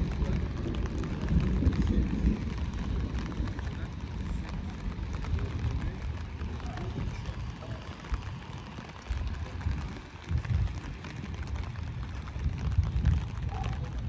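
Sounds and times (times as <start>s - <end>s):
light rain pattering: 0.0s - 14.0s
low rumble: 0.0s - 14.0s.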